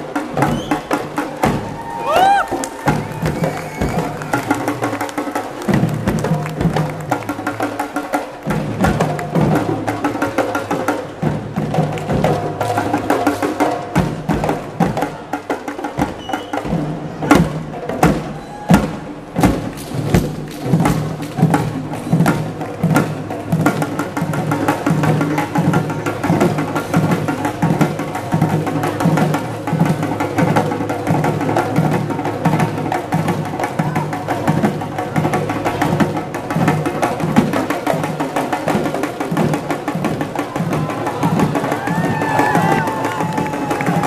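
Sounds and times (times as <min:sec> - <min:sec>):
barrel drums playing fast rhythm: 0:00.0 - 0:44.0.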